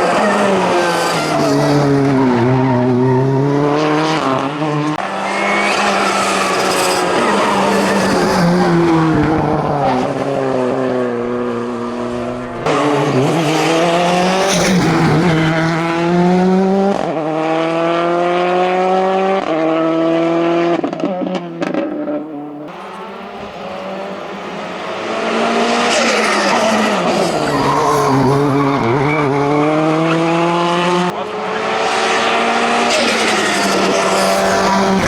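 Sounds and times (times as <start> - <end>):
race car engine at full throttle: 0.0 - 35.0
second car engine approaching: 0.0 - 35.0.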